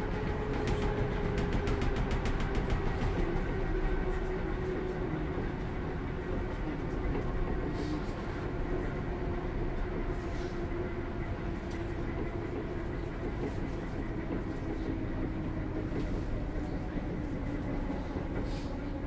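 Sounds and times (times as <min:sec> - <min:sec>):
train interior low rumble: 0:00.0 - 0:19.0.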